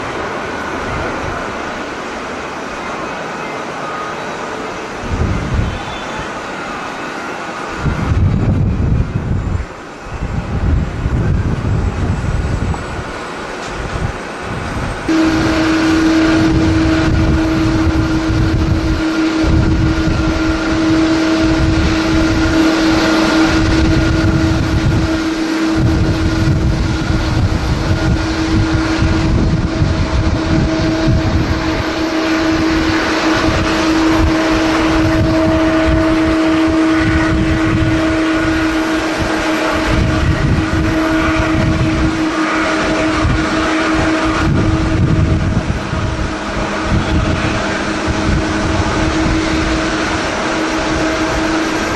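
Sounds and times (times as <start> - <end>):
jet engine drone: 0.0 - 51.9
wind buffeting microphone: 4.4 - 51.9.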